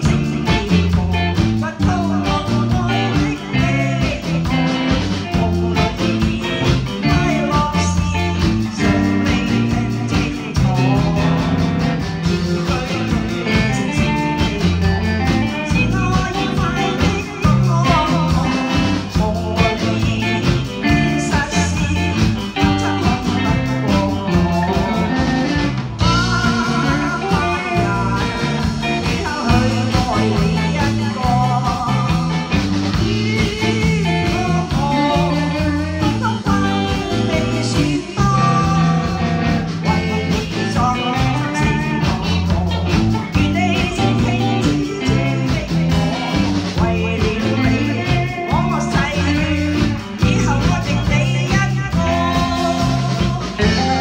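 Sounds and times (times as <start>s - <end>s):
pop song with guitar and bass: 0.0s - 54.0s.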